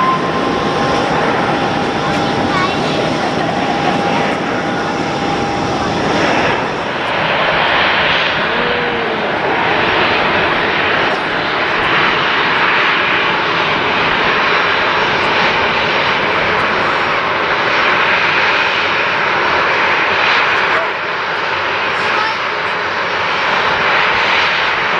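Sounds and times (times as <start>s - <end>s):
airliner engines roaring: 0.0s - 24.9s.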